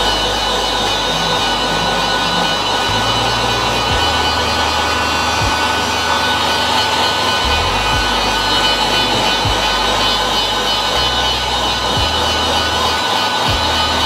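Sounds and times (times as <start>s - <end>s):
heat gun blowing: 0.0s - 14.0s.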